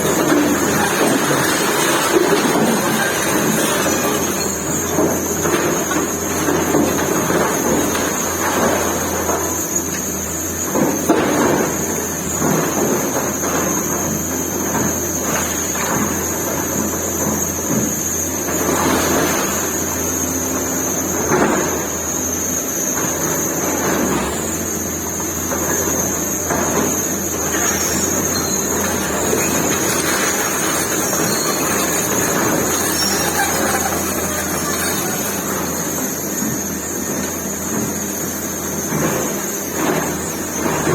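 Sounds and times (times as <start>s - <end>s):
excavator diesel engine: 0.0s - 10.5s, 11.7s - 40.9s.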